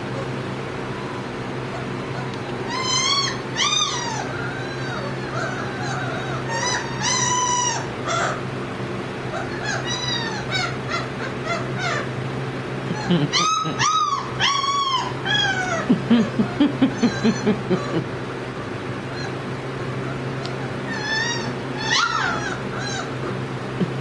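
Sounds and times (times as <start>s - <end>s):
puppies whining and yelping: 0.0s - 8.5s, 9.2s - 12.2s, 12.9s - 24.0s
puppy grunts: 0.0s - 8.5s, 9.2s - 12.1s, 12.8s - 24.0s.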